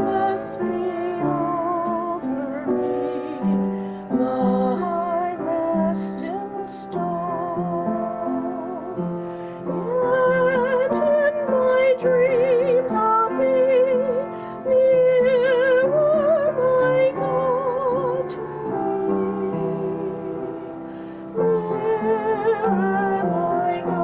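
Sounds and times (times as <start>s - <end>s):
person singing classical melody: 0.0s - 24.0s.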